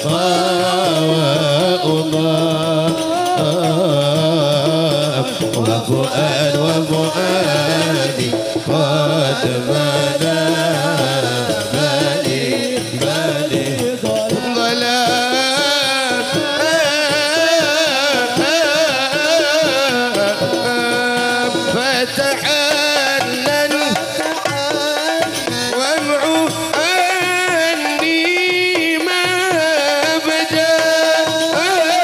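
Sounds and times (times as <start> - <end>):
frame drums: 0.0 - 32.0
man singing into a microphone: 0.0 - 32.0.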